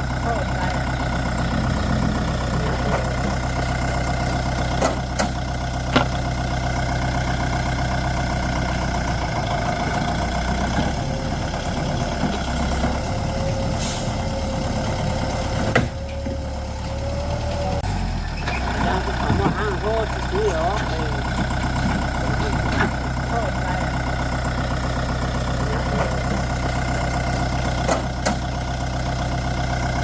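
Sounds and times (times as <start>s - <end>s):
small engine idling: 0.0s - 30.0s.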